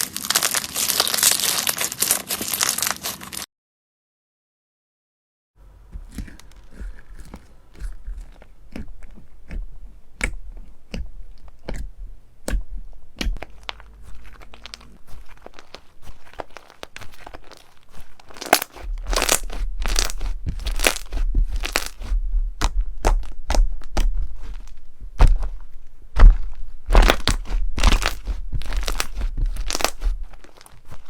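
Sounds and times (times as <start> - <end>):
crunchy slime crackling: 0.0 - 3.5, 5.9 - 31.0.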